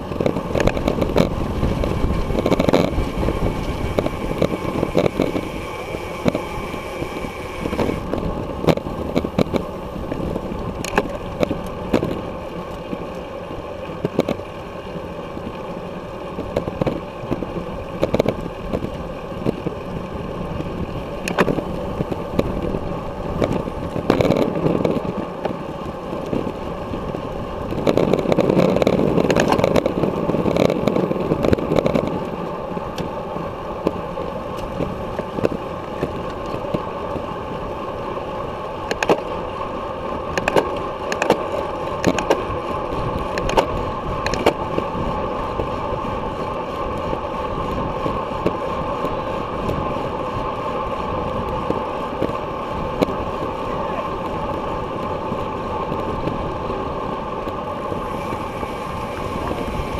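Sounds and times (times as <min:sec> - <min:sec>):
bicycle clicks and knocks: 0:00.0 - 0:59.9
road and tyre rumble: 0:00.0 - 0:59.9
wind rushing over microphone: 0:00.0 - 0:59.9.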